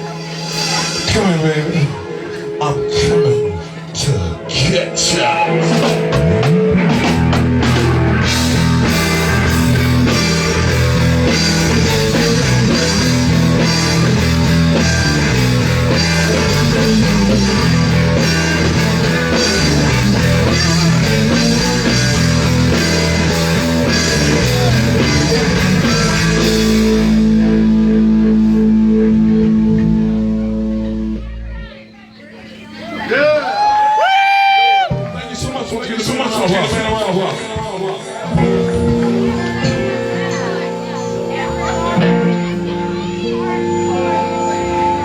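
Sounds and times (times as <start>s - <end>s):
rock band playing: 0.0s - 31.8s, 32.4s - 45.0s.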